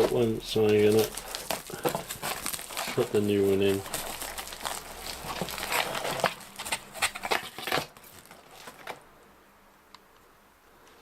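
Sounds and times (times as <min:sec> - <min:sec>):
packaging rustling and crinkling: 0:00.0 - 0:09.1.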